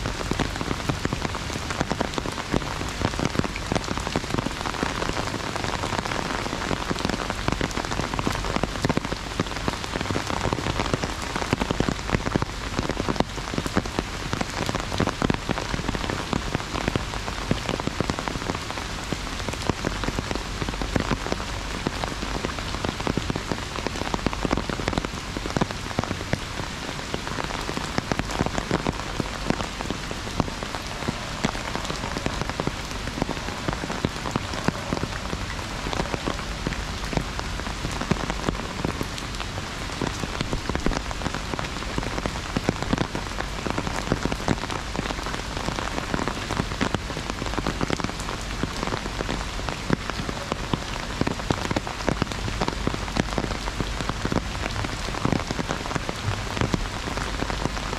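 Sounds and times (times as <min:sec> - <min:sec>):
heavy rain on an umbrella: 0:00.0 - 0:57.9.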